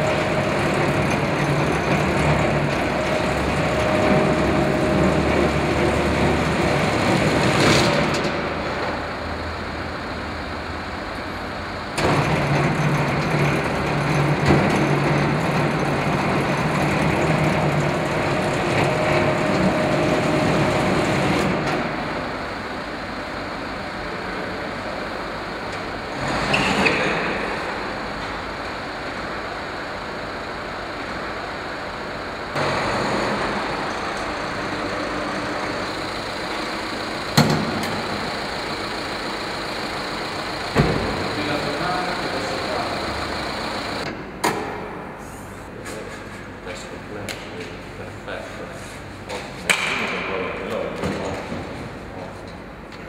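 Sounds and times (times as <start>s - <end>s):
roller brake tester rollers running: 0.0s - 45.2s.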